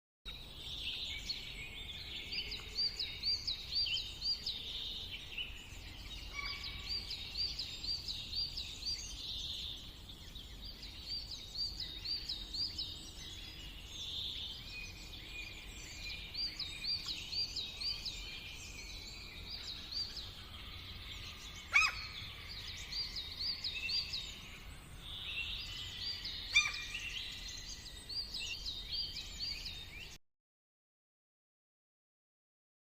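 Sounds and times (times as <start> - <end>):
songbirds singing: 0.3 - 30.2.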